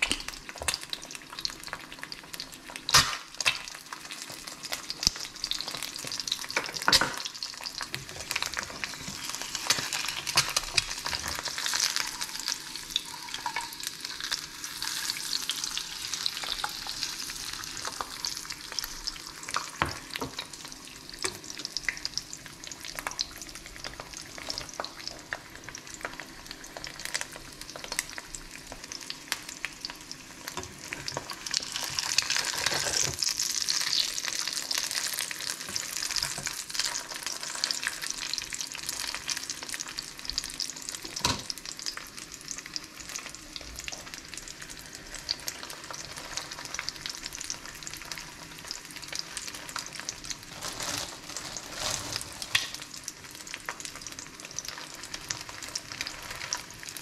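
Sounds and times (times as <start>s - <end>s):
egg sizzling in a pan: 0.0s - 57.0s.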